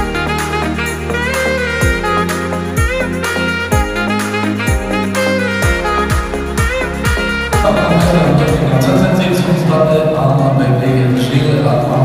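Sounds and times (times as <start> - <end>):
background music with a beat: 0.0 - 10.0.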